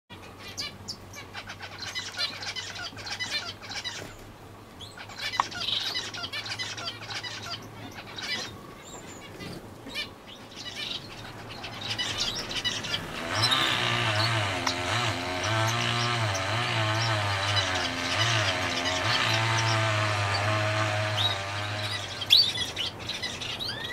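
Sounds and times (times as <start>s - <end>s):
finches chirping: 0.2s - 4.2s, 4.8s - 23.9s.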